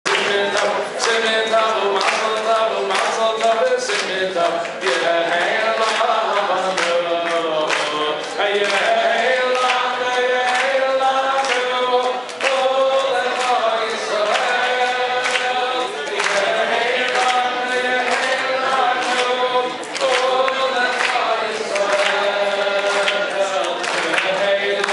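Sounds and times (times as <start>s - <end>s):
man singing through microphone: 0.0s - 24.9s
steady hand claps: 0.0s - 24.9s
other voices singing: 0.1s - 24.9s.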